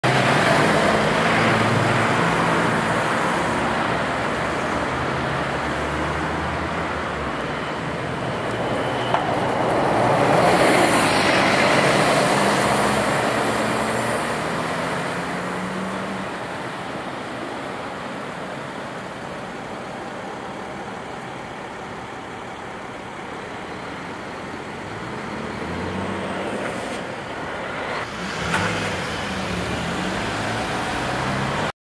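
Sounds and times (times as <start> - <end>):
road traffic passing: 0.0 - 31.8.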